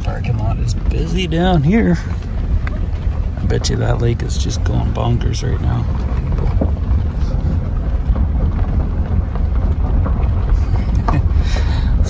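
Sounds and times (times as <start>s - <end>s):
vehicle rolling over gravel: 0.0s - 12.0s
wind noise on microphone: 0.0s - 12.0s.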